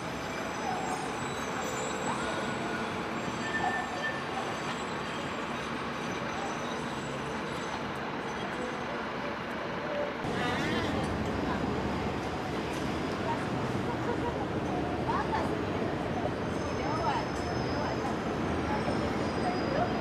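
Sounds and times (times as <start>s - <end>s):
distant buses and trams: 0.0s - 20.0s.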